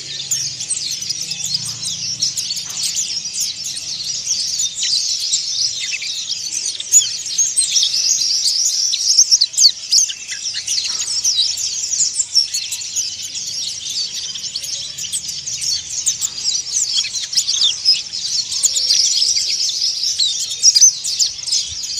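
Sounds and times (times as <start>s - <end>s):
bird twittering in rough chatter: 0.0s - 21.9s.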